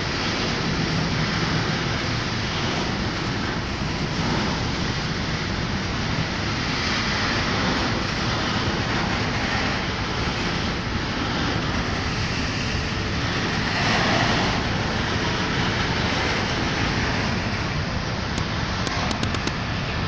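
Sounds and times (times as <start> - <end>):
train rumbling on board: 0.0 - 20.0.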